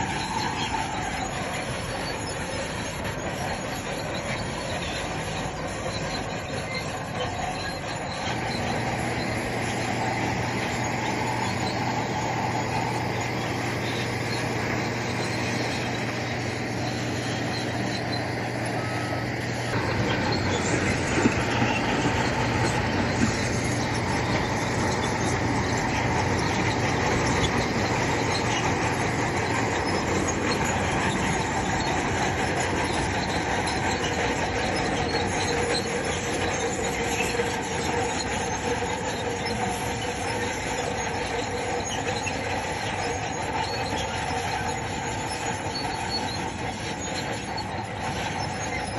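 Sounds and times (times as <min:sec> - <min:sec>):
bulldozer diesel engine: 0:00.0 - 0:48.9
steel tracks squealing and clattering: 0:00.0 - 0:48.9.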